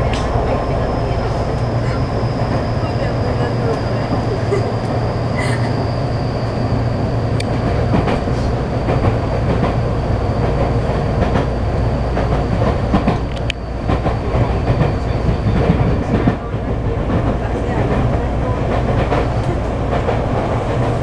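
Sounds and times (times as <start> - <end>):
steady high whine: 0.0 - 21.0
train wheels rumbling on rail: 0.0 - 21.0.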